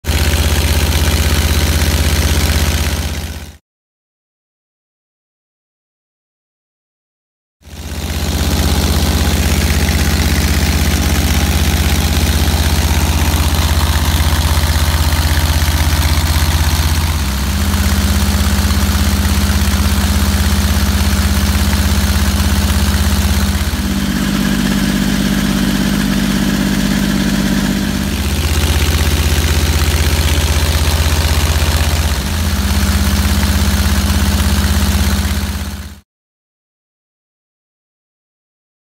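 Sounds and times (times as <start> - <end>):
motorcycle engine running under load: 0.0 - 3.6, 7.7 - 36.0.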